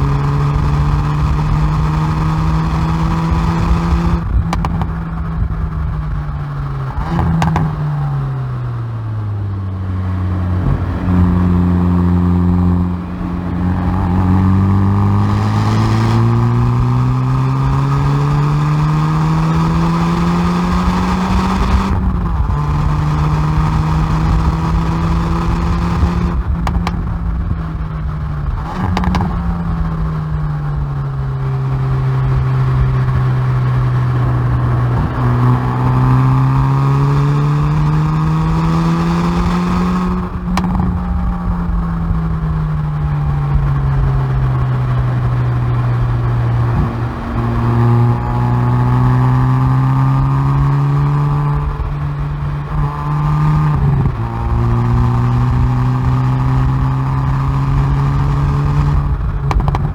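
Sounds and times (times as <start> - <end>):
exhaust cracks: 0.0 - 18.5, 19.4 - 59.9
car exhaust revving: 0.0 - 59.9.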